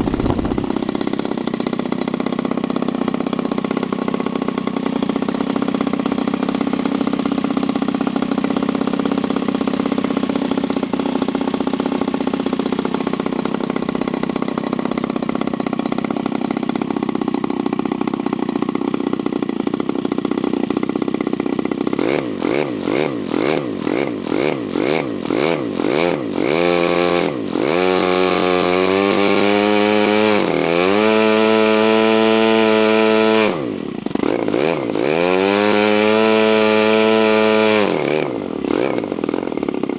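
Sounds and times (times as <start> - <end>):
model aircraft engine: 0.0 - 39.9.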